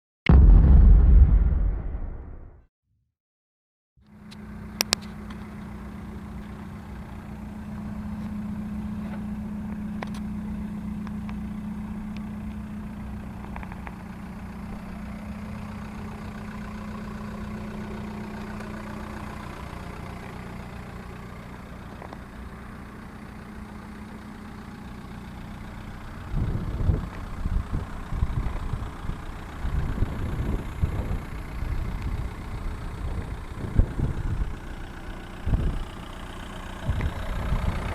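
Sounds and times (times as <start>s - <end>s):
diesel engine idling: 4.1s - 37.9s.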